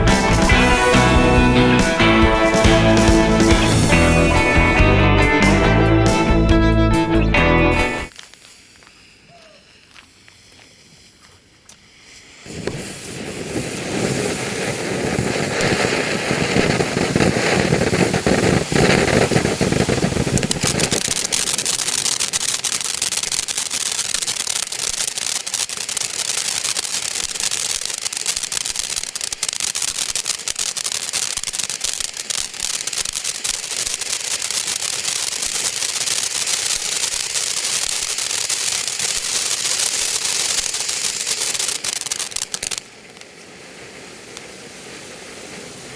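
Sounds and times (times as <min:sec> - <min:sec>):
firework fountain hissing and crackling: 0:00.0 - 0:04.8, 0:08.1 - 0:45.9.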